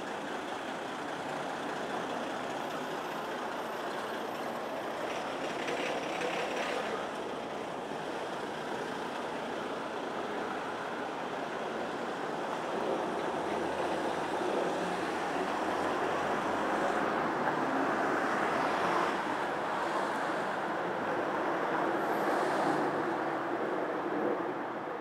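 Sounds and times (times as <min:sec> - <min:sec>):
street traffic rushing: 0:00.0 - 0:25.0.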